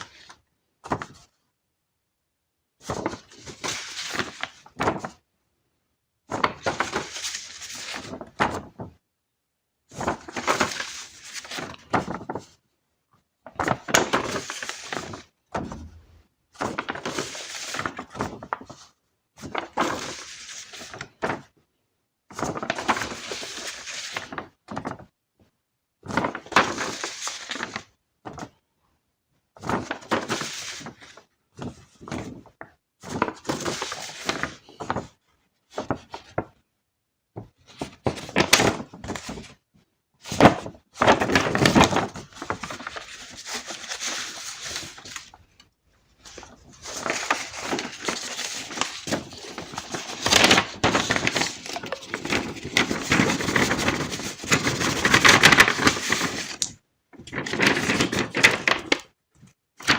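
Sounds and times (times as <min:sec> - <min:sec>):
paper rustling: 0:00.0 - 0:01.3, 0:02.8 - 0:05.2, 0:06.3 - 0:09.0, 0:09.9 - 0:12.6, 0:13.4 - 0:21.5, 0:22.3 - 0:25.1, 0:26.1 - 0:28.6, 0:29.6 - 0:36.6, 0:37.4 - 0:39.6, 0:40.2 - 0:59.9.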